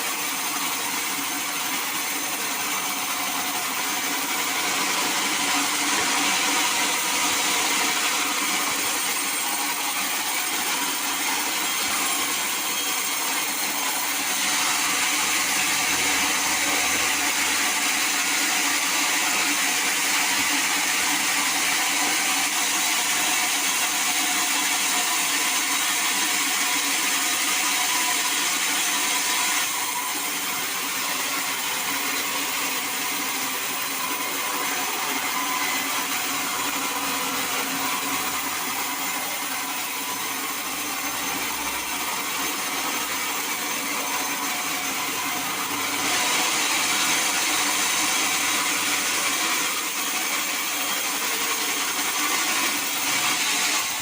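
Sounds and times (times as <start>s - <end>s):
sawmill saw cutting wood: 0.0s - 54.0s.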